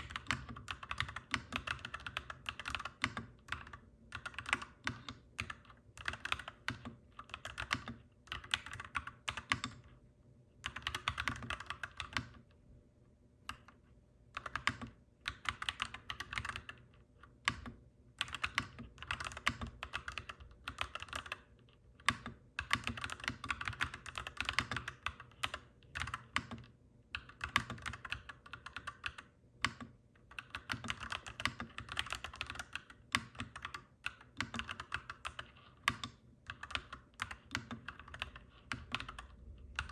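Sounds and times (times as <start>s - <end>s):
mechanical keyboard typing: 0.0s - 10.0s, 10.6s - 12.4s, 13.5s - 39.9s.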